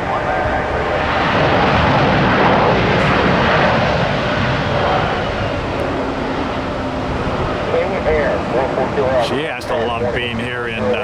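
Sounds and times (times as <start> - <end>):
jet airliner passing: 0.0 - 11.0.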